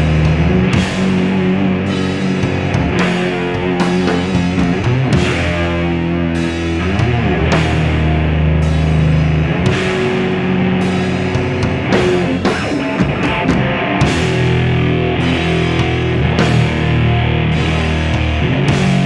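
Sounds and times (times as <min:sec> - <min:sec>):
distorted electric guitars: 0:00.0 - 0:19.0
drum kit: 0:00.0 - 0:19.0.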